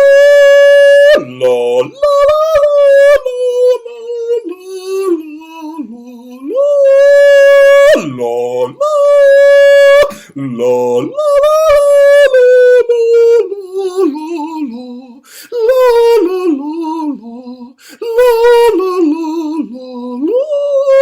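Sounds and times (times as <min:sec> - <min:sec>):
person singing wordless tune: 0:00.0 - 0:21.0.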